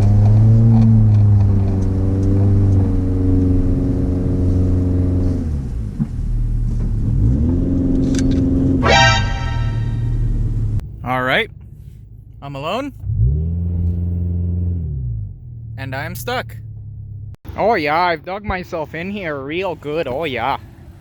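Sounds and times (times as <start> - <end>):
car engine revving under load: 0.0 - 17.4.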